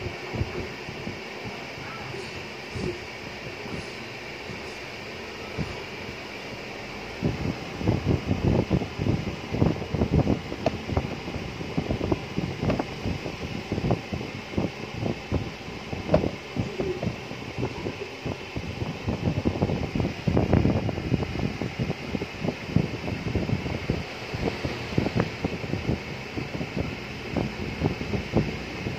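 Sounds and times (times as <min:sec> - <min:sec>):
air buffeting microphone: 0:00.0 - 0:28.9
fan hissing: 0:00.0 - 0:28.9.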